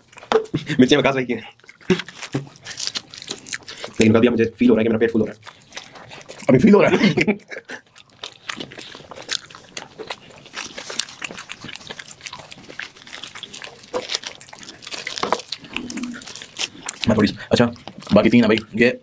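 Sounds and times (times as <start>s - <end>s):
chewing and biting food: 0.0s - 19.0s.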